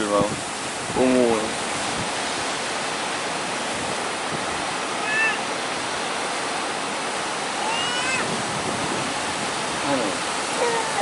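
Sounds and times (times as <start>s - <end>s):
heavy surf: 0.0s - 11.0s.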